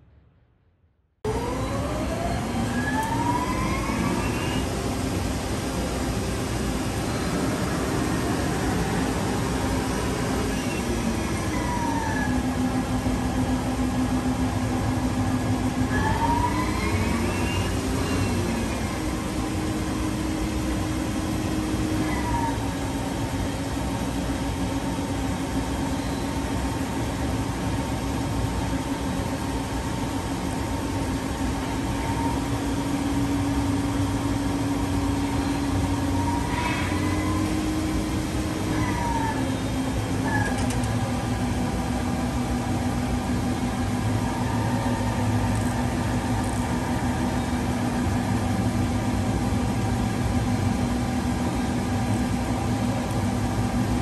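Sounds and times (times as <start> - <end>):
lathe spindle whine: 1.3 - 54.0.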